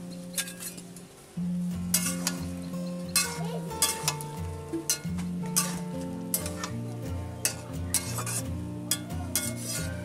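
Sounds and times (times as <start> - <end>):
metal spatula scraping a pan: 0.0 - 1.1, 1.7 - 10.0
vegetables sizzling: 0.0 - 10.0.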